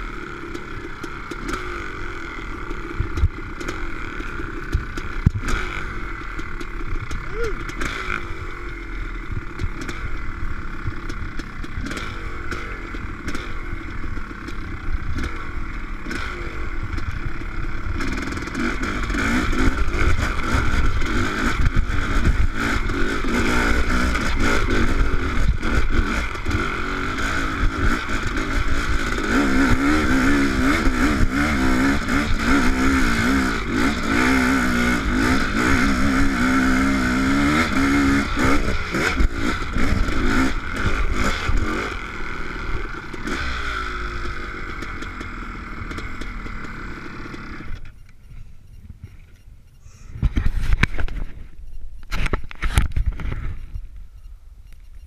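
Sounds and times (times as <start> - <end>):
dirt bike engine revving: 0.0 - 49.2.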